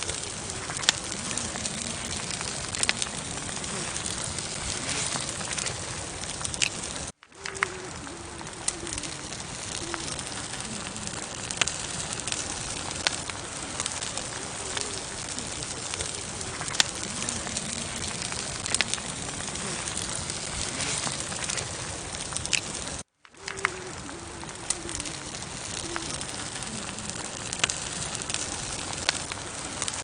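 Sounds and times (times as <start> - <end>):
campfire crackling and popping: 0.0 - 30.0
fire hissing: 0.0 - 30.0.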